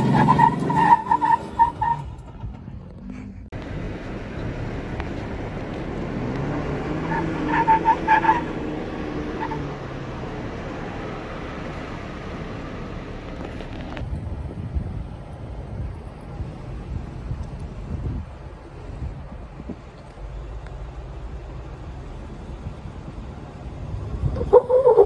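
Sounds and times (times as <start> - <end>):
vehicle engine climbing: 0.0 - 25.0.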